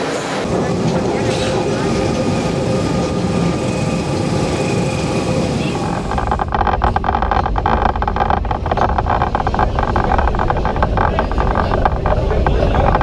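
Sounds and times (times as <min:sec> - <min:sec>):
electric tram running on rails: 0:00.0 - 0:13.0.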